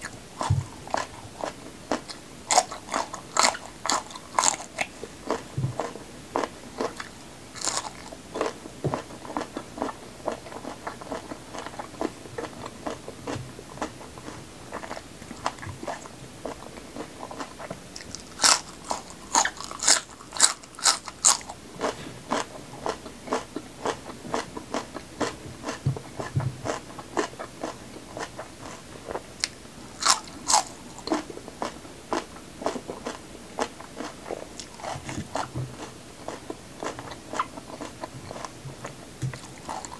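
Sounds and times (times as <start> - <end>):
chewing crisp raw vegetables: 0.0 - 39.9.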